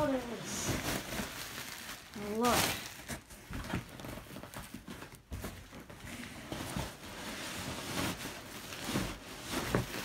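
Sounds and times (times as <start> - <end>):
plastic bag crinkling: 0.0 - 6.0, 6.6 - 10.0.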